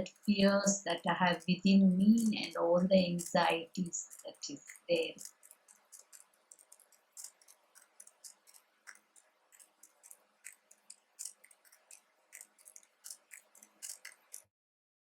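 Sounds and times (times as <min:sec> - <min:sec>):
faint keyboard typing: 0:00.0 - 0:14.5.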